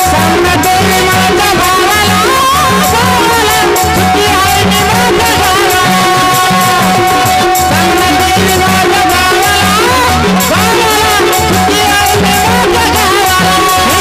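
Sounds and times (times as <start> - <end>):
bending melodic line: 0.0 - 14.0
steady drum beat: 0.0 - 14.0.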